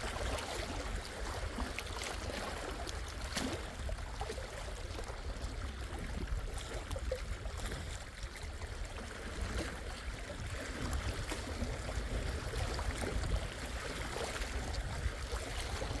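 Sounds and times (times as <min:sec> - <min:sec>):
small splashes: 0:00.0 - 0:16.0
waves lapping at shore: 0:00.0 - 0:16.0.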